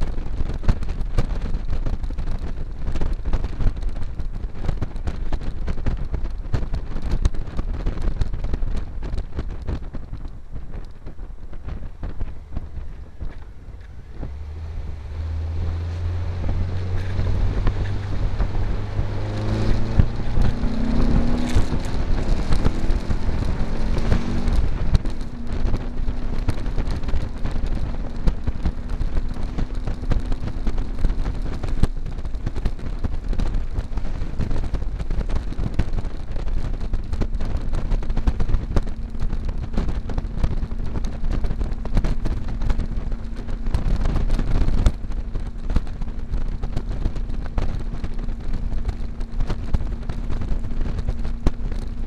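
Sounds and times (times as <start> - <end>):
buggy engine accelerating: 0.0 - 52.0
wind rushing over microphone: 0.0 - 52.0.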